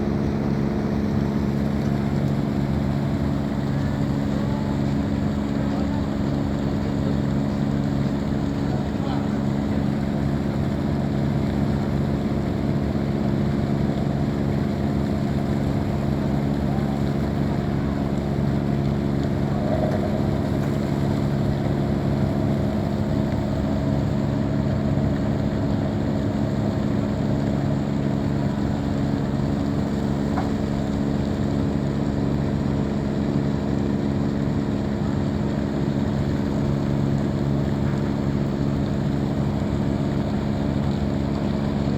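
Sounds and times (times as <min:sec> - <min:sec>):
boat engine humming: 0:00.0 - 0:41.9.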